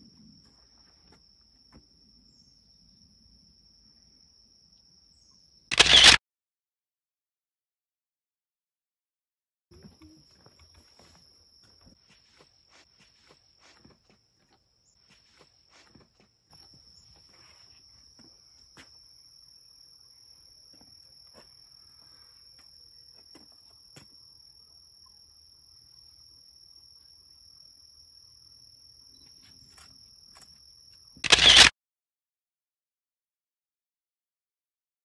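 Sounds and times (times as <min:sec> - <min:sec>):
high-pitched insect trill: 0:00.1 - 0:06.2, 0:09.8 - 0:31.7.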